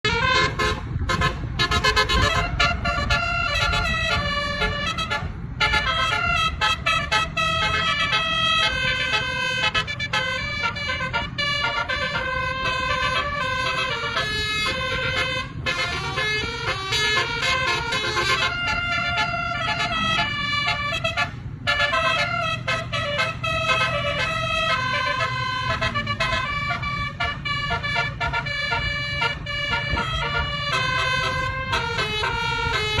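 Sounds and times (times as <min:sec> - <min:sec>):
multi-tone bus horn tune: 0:00.0 - 0:33.0.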